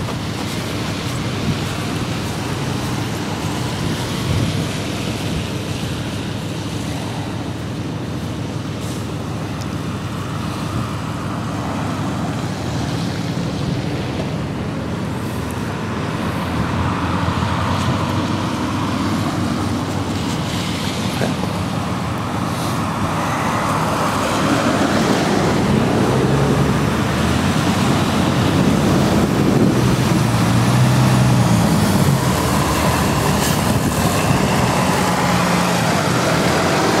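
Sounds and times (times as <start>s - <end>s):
road traffic passing: 0.0s - 37.0s
truck engine hum: 0.0s - 37.0s.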